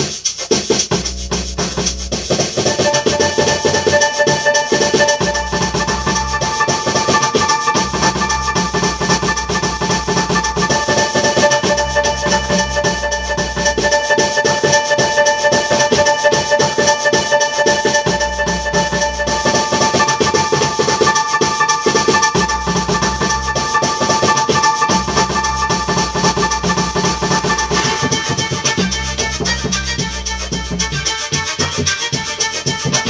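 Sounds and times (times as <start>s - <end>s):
fast ticking rhythm: 0.0s - 33.0s
deep bass: 0.8s - 33.0s
held high tones: 2.6s - 32.6s.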